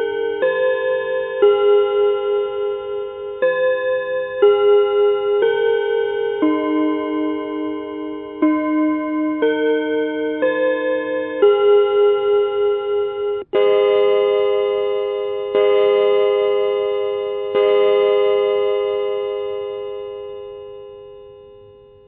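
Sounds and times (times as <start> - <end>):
clock hour strikes: 0.0 - 22.0
electronic clock chime melody: 0.0 - 22.0.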